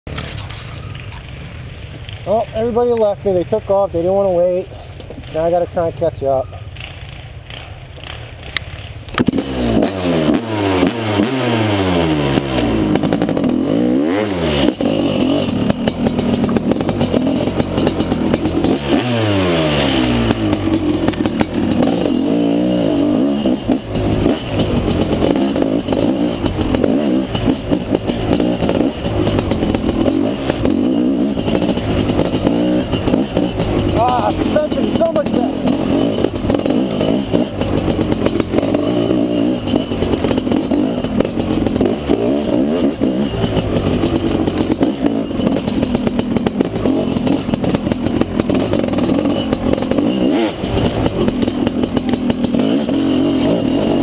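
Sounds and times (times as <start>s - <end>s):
dirt bike engine accelerating: 0.1s - 54.0s.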